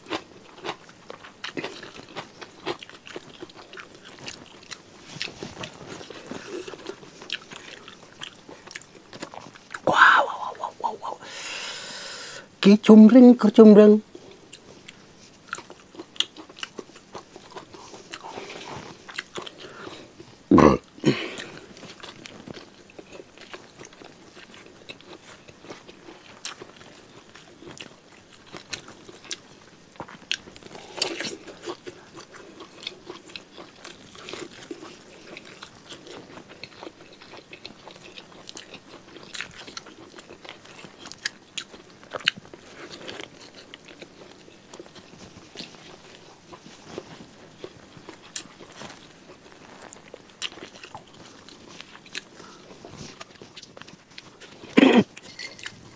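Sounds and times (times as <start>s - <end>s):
person chewing food: 0.0s - 12.5s, 14.1s - 55.9s.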